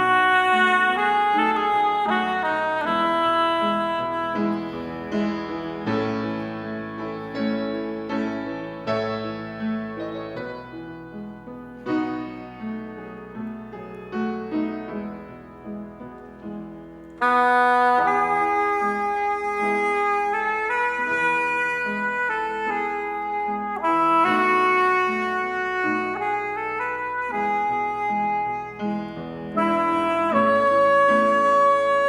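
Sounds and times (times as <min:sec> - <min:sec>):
piano playing: 0:00.0 - 0:32.0
saxophone playing: 0:00.0 - 0:32.0.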